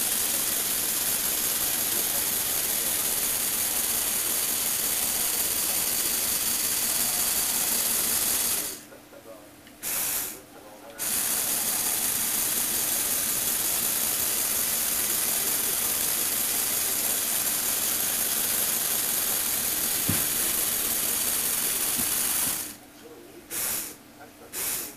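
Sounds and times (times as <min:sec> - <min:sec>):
toy motor whirring: 0:00.0 - 0:08.8, 0:09.8 - 0:10.4, 0:11.0 - 0:22.8, 0:23.5 - 0:24.0, 0:24.6 - 0:24.9.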